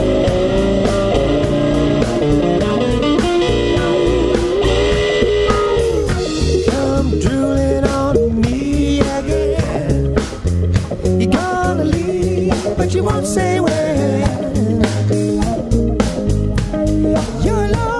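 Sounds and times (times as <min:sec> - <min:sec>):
bass guitar: 0:00.0 - 0:17.9
drums: 0:00.0 - 0:17.9
electric guitar lead with bends: 0:00.0 - 0:17.9.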